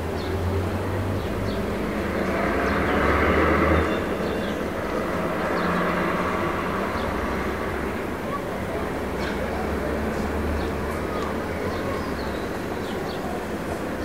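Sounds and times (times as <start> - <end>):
traffic noise: 0.0 - 14.0
vehicle engine hum passing: 0.2 - 14.0.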